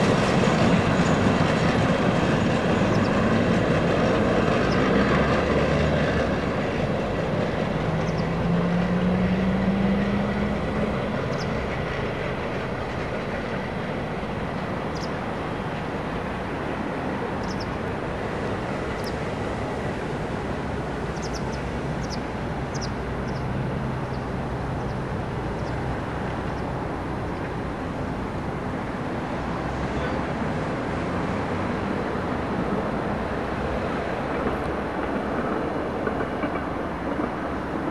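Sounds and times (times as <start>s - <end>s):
diesel train rumble: 0.0s - 37.9s.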